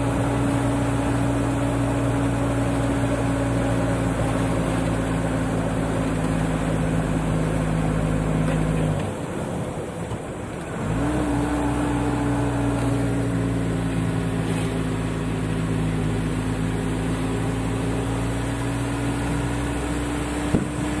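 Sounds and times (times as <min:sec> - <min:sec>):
car engine drone: 0:00.0 - 0:21.0
road rumble: 0:00.0 - 0:21.0.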